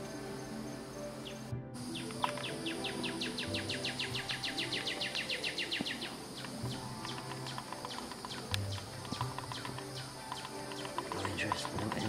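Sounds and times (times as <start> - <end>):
high drone of insects: 0.0 - 12.0.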